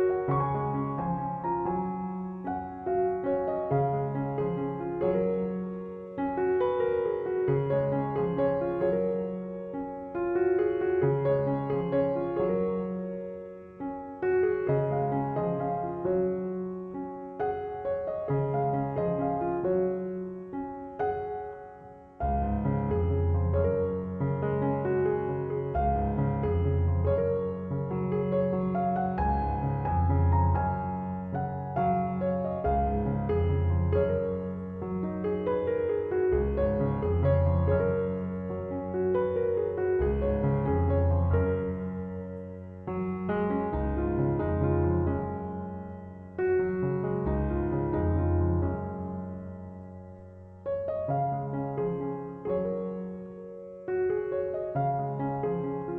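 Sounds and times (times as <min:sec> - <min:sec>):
slow gentle piano piece: 0:00.0 - 0:55.9.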